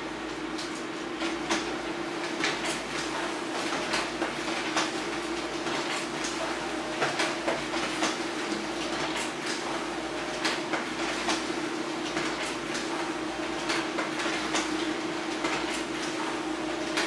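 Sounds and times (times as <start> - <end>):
printer motor hum: 0.0 - 17.0.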